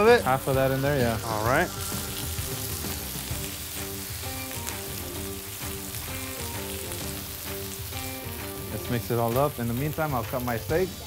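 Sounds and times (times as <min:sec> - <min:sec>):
background music: 0:00.0 - 0:11.0
fried rice sizzling on griddle: 0:00.0 - 0:11.0.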